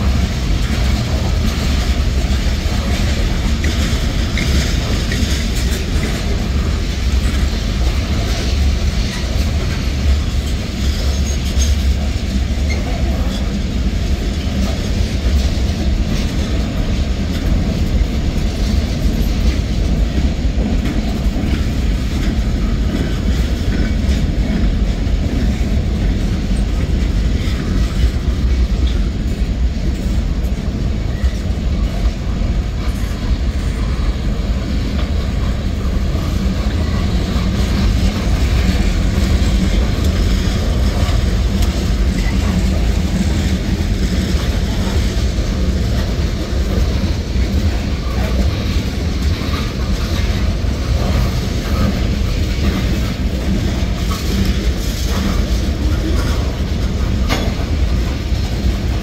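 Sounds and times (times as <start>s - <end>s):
train wheels rolling on rails: 0.0s - 59.0s.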